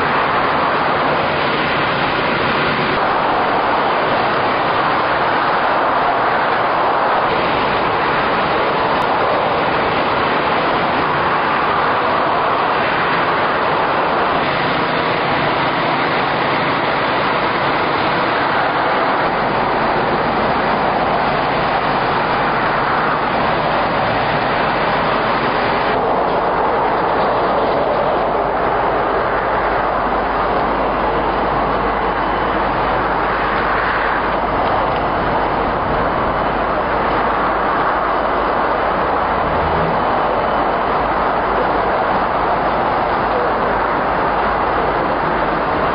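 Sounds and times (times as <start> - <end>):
motorway traffic roar: 0.0 - 45.9.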